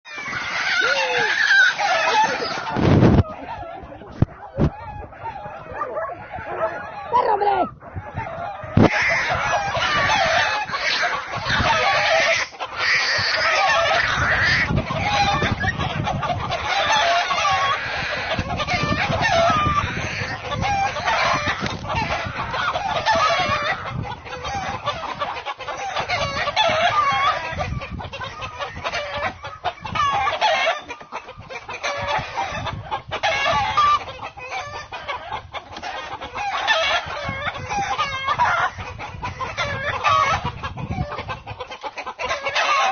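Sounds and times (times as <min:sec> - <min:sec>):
chickens clucking: 0:00.1 - 0:42.9.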